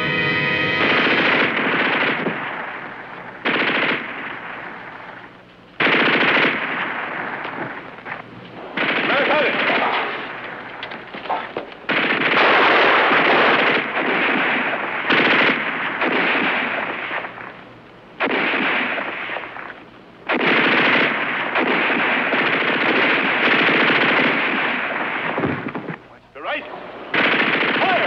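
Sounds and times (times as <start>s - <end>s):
machine-gun fire bursts: 0.8s - 17.6s, 18.2s - 26.0s, 27.0s - 28.0s.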